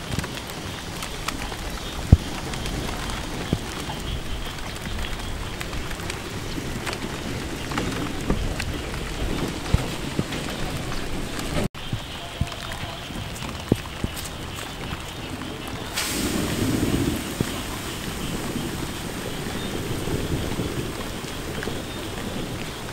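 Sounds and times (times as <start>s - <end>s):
steady rain falling: 0.0s - 22.9s.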